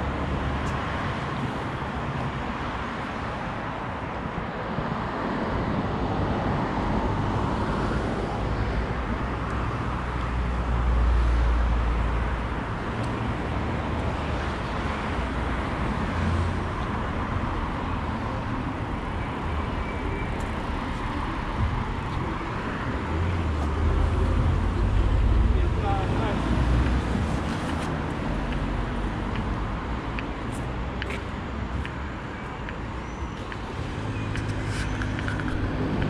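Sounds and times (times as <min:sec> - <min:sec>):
cars driving past: 0:05.6 - 0:36.0.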